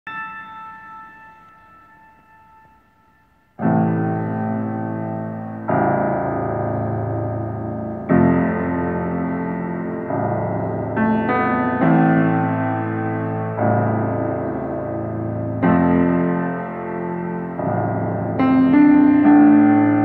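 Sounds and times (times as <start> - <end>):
grand piano chords: 0.1 - 20.0.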